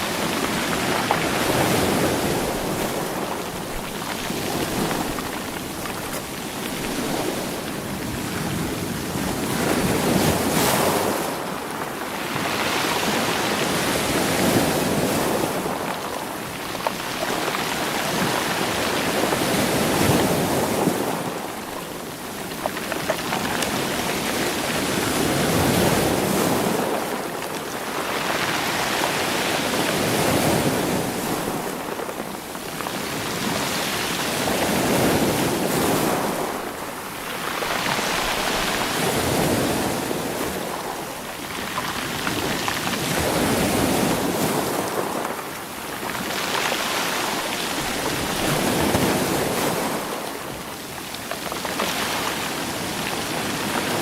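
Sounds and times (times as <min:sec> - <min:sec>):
waves rolling stones on shore: 0:00.0 - 0:54.0.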